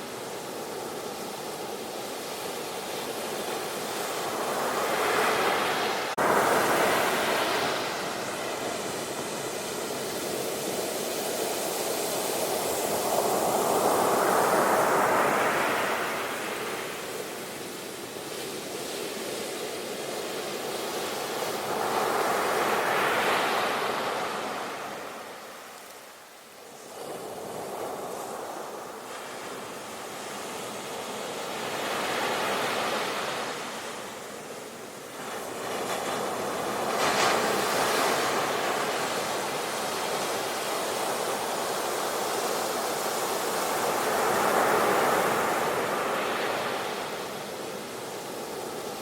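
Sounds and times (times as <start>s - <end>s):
sea waves rushing: 0.0s - 26.2s, 26.8s - 49.0s.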